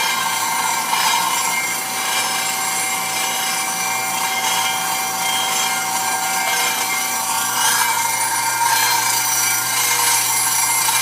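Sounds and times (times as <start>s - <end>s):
grinder grinding stone: 0.0s - 11.0s
machine whining tones: 0.0s - 11.0s.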